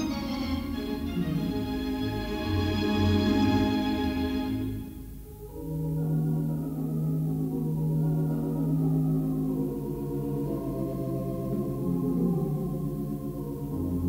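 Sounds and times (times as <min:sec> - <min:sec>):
pipe organ playing slow tune: 0:00.0 - 0:14.0.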